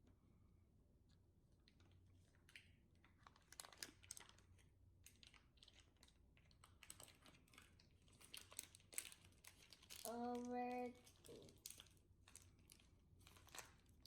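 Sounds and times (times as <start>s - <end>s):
slime squelching and popping: 2.4s - 14.0s.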